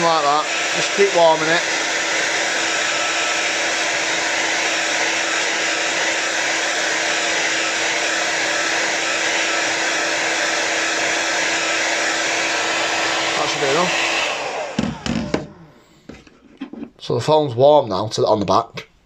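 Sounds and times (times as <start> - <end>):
hairdryer motor hum: 0.0 - 16.3
hairdryer blowing: 0.0 - 16.4.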